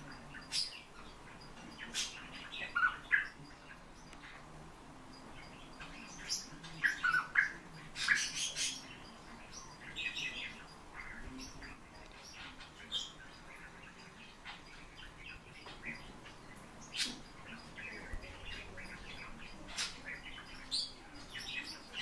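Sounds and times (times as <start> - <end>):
fieldfare chirping: 0.0 - 22.0.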